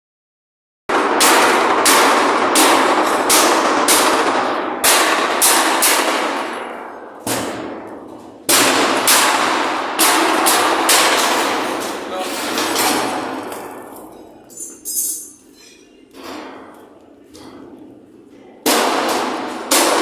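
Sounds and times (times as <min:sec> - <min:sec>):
hammer striking sheet metal: 0:00.9 - 0:14.3, 0:16.2 - 0:17.9, 0:18.6 - 0:20.0.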